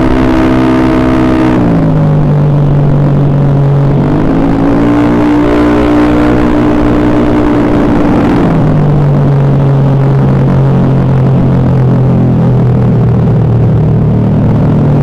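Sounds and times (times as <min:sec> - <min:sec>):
scooter engine idling and revving: 0:00.0 - 0:15.0.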